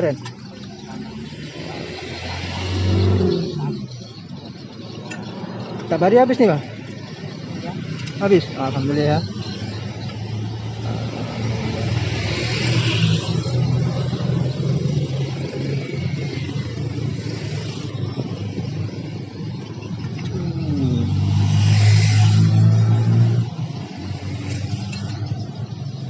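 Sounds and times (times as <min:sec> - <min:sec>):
road traffic passing: 0:00.0 - 0:26.0
vehicle engine running: 0:00.0 - 0:26.0.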